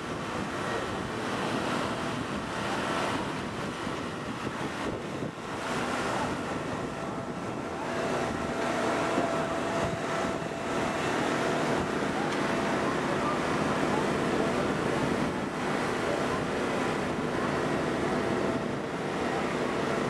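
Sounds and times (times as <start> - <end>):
hydraulic power unit droning: 0.0 - 20.0.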